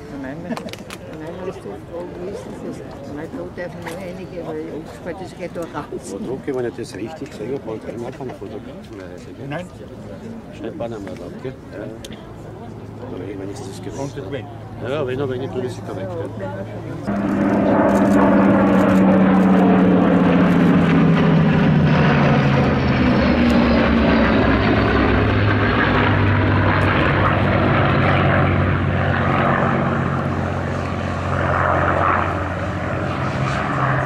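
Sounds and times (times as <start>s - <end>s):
propeller planes droning past: 0.0s - 34.0s.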